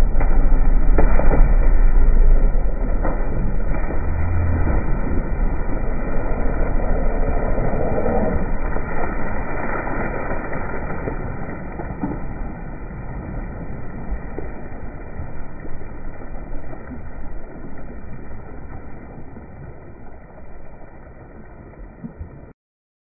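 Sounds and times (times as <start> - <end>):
heavy low rumble: 0.0 - 22.5
muddy water splashing: 0.0 - 22.5.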